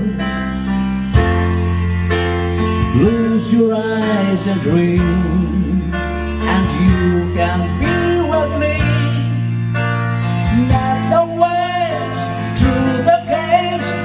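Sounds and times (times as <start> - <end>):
man singing a slow ballad: 0.0 - 0.7, 2.6 - 14.0
recorded backing track: 0.0 - 14.0.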